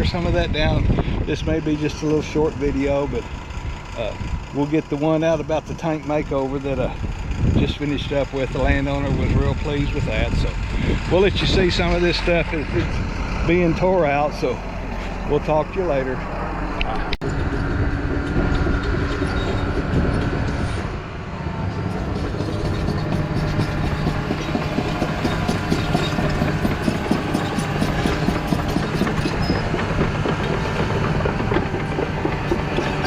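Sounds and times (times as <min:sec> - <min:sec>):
diesel engine running: 0:00.0 - 0:33.0
steel tracks clanking: 0:04.6 - 0:33.0.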